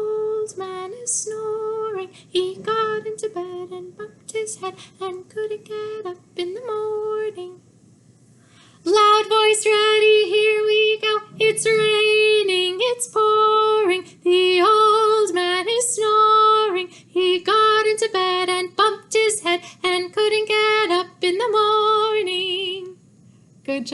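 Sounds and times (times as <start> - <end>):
woman singing unaccompanied: 0.0 - 7.6, 8.8 - 23.0, 23.7 - 23.9.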